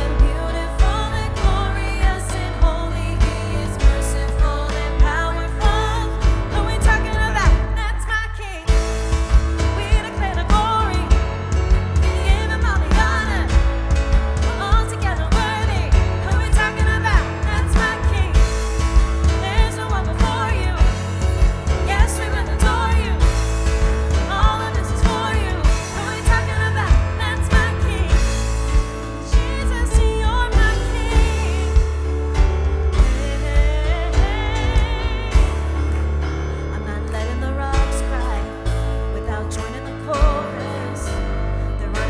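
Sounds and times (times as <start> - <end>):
bass: 0.0 - 42.0
drums: 0.0 - 42.0
person singing: 0.0 - 42.0
piano: 0.0 - 42.0.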